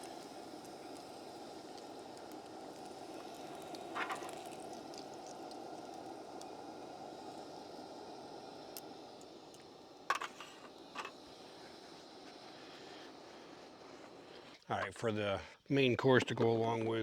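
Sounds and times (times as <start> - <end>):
bacon sizzling in a pan: 0.0 - 14.6.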